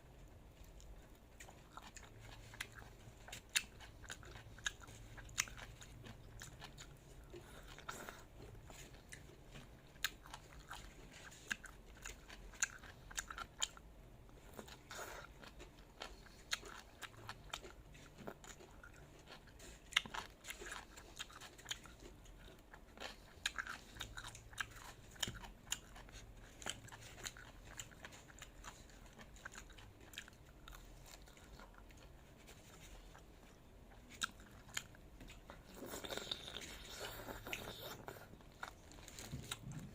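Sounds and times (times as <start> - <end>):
person chewing food: 0.2 - 39.9.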